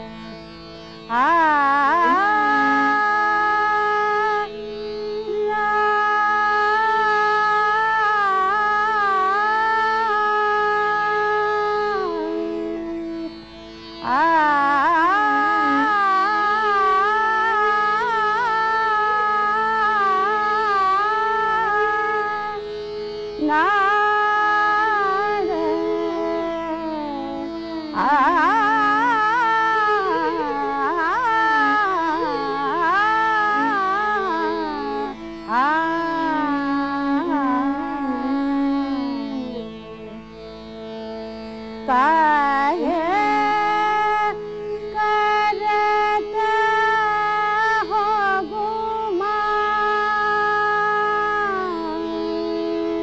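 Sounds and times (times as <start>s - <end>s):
tanpura drone: 0.0s - 53.0s
woman singing classical vocals: 1.1s - 13.3s, 14.0s - 40.2s, 41.1s - 53.0s.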